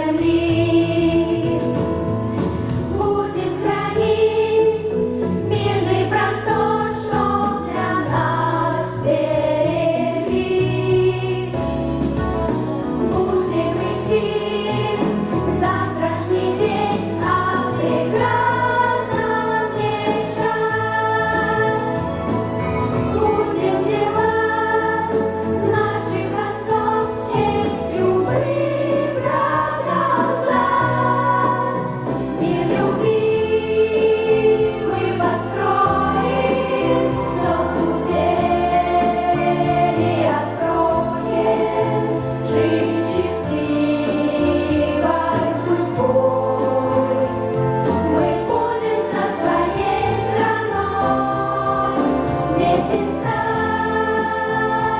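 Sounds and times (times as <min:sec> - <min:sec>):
instrumental accompaniment: 0:00.0 - 0:54.9
vocal pop group singing: 0:00.0 - 0:54.9.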